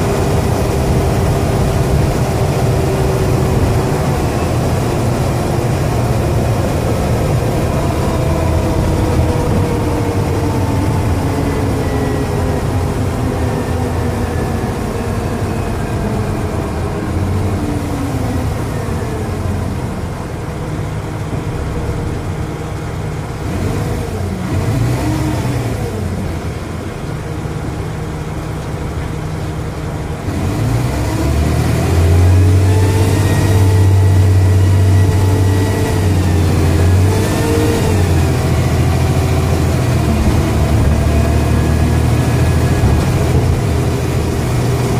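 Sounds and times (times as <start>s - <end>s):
rising and falling whine: 0.0s - 27.4s, 30.4s - 44.9s
bus engine droning: 0.0s - 44.9s.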